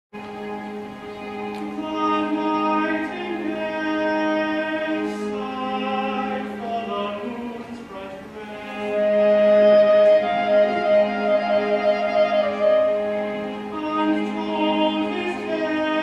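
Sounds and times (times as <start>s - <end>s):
orchestral strings accompaniment: 0.2s - 16.0s
man singing tenor ballad: 1.6s - 16.0s.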